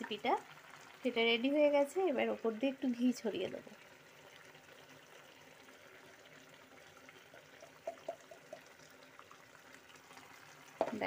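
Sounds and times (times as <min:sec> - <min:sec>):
curry bubbling: 0:00.0 - 0:11.0
liquid trickling into pan: 0:00.0 - 0:11.0.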